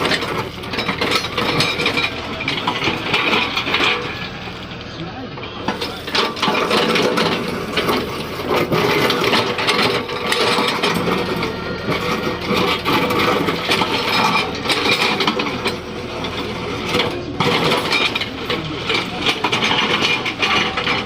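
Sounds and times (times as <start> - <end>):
bucket clattering and scraping: 0.0 - 4.8, 5.4 - 21.0
excavator engine under load: 0.0 - 21.0.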